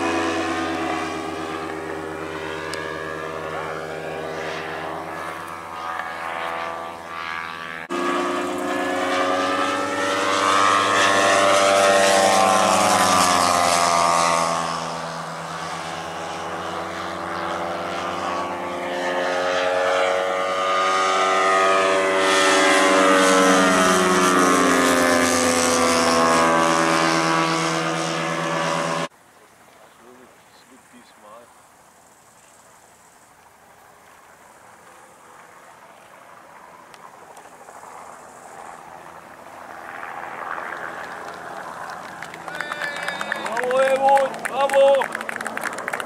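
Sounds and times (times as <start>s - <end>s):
model airplane engine and propeller: 0.0s - 46.0s.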